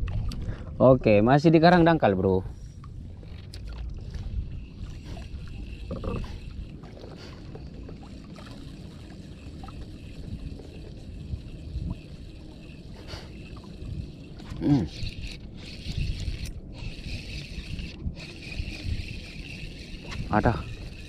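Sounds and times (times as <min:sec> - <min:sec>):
wind buffeting microphone: 0:00.0 - 0:21.0
waves lapping against boat hull: 0:02.2 - 0:21.0.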